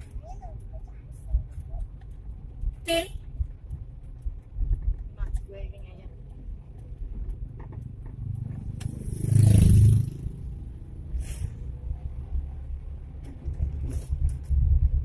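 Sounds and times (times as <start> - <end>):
vehicle engine rumble with road noise: 0.0 - 15.0.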